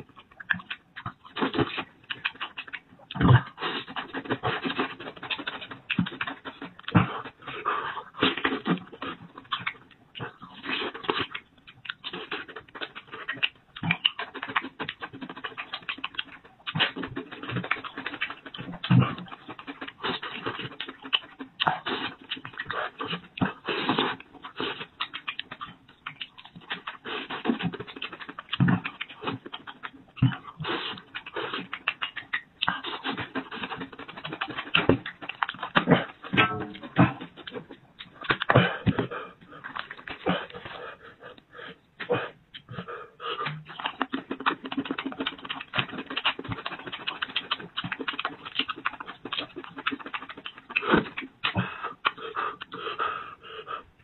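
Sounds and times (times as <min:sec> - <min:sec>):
man chewing and sucking: 0:00.0 - 0:54.0.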